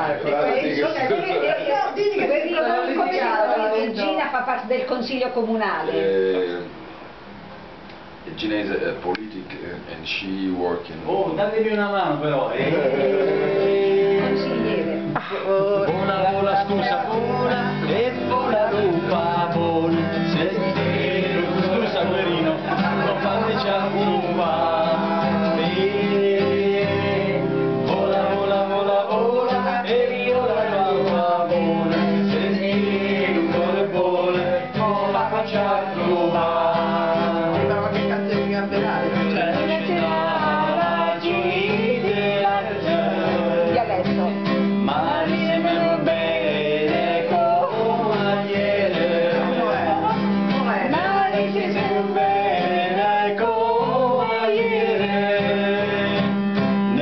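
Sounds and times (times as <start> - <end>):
acoustic guitar strumming: 11.1 - 57.0
man singing: 11.1 - 57.0.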